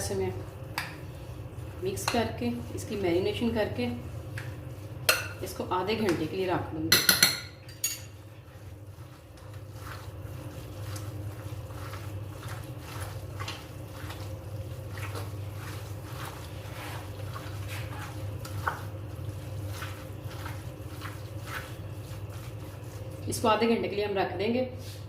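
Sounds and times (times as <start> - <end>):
wet squelching of mixing meat: 0.0 - 6.6, 8.1 - 24.1
steady low hum: 0.0 - 25.0.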